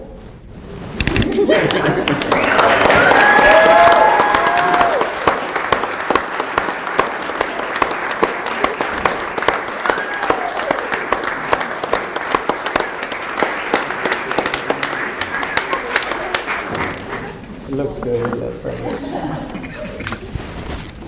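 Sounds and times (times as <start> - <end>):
crowd applauding: 1.3 - 18.8.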